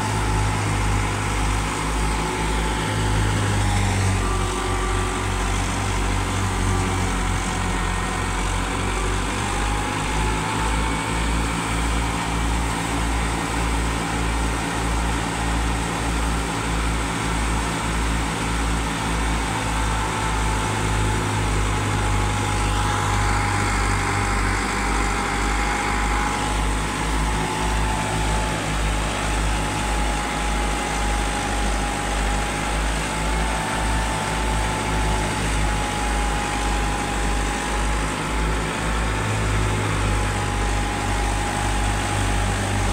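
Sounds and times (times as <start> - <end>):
grain thresher whirring: 0.0 - 42.9
steady high whine: 0.0 - 42.9
tractor diesel engine running: 0.0 - 42.9.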